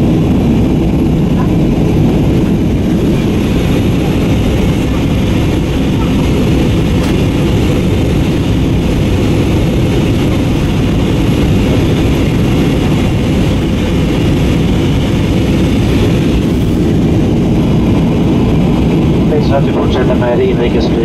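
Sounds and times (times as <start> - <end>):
jet engine cabin drone: 0.0 - 21.0.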